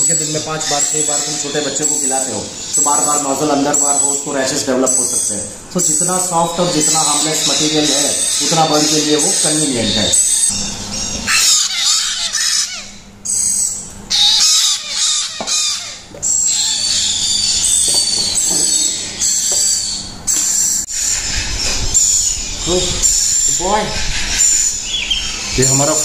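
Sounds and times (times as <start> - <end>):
parrot chicks begging calls: 0.0 - 26.0.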